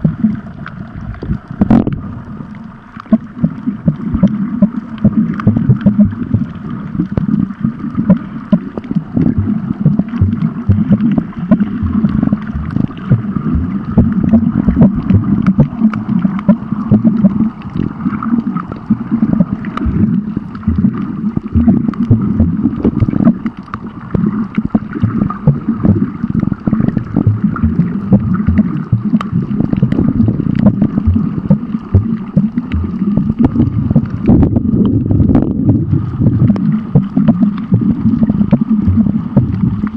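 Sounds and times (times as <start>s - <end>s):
underwater rush of moving water: 0.0s - 39.9s
small clicks and crackles: 0.2s - 35.1s.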